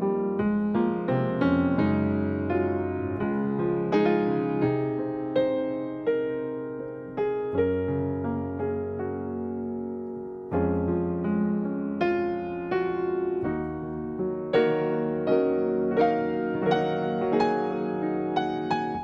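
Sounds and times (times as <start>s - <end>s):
gentle keyboard piece: 0.0s - 19.0s.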